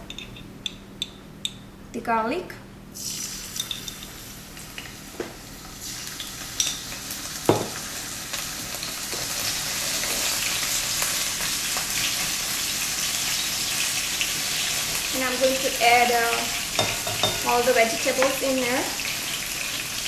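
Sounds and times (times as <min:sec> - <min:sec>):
garlic sizzling in hot oil: 0:03.0 - 0:20.0.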